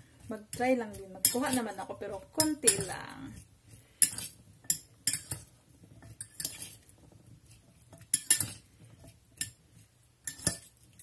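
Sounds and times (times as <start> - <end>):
fork clinking and scraping bowl: 0.3 - 11.0.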